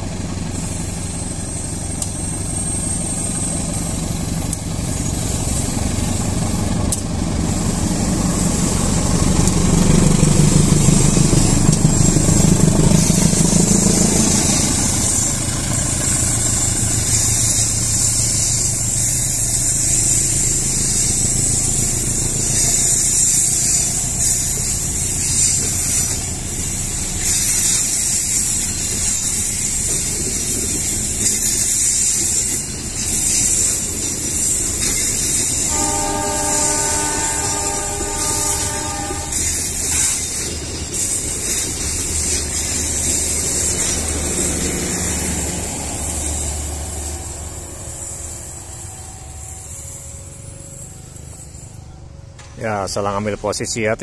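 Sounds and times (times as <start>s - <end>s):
diesel locomotive engine drone: 0.0s - 54.0s
train wheels rolling on rails: 0.0s - 54.0s.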